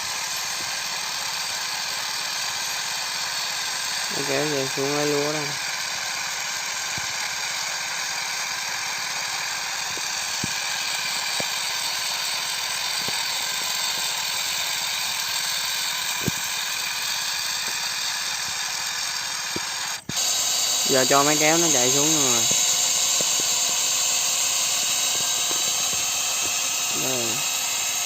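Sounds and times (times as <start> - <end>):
farm machinery whining: 0.0 - 28.0.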